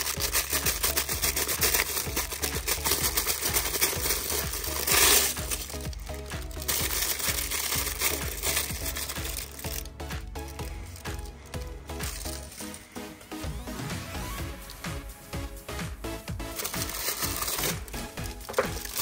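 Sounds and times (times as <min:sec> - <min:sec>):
packaging clicking and crinkling: 0:00.0 - 0:12.8, 0:16.6 - 0:19.0
background music: 0:00.0 - 0:19.0.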